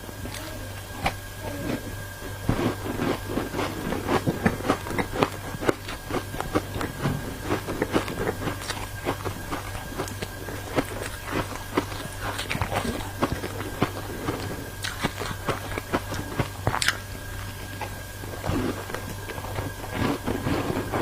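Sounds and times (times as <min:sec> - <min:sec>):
ice being chewed: 0:00.0 - 0:21.0
steady low hum: 0:00.0 - 0:21.0.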